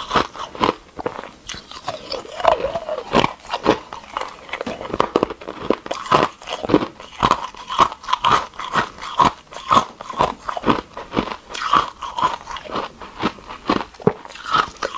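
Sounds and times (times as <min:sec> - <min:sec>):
person chewing ice cubes: 0:00.0 - 0:14.9.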